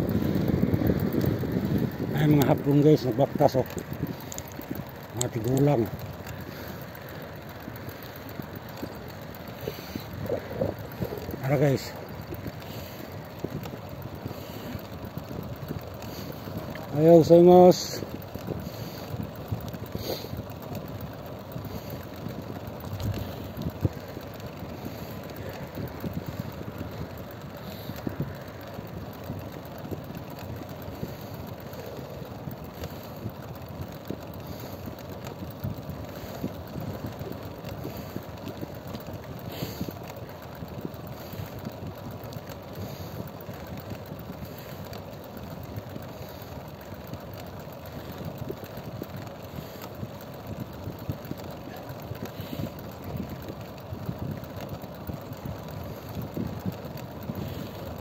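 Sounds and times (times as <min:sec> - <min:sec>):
vehicle engine and road noise: 0:00.0 - 0:58.0
faint clicks: 0:00.1 - 0:58.0.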